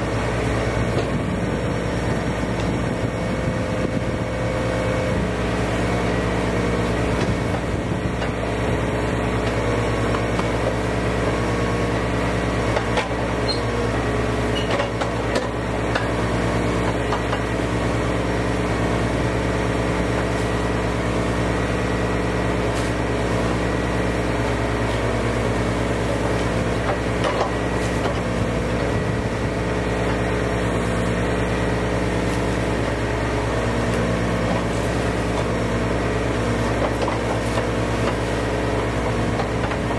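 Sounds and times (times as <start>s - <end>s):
work machine engine running: 0.0s - 39.9s.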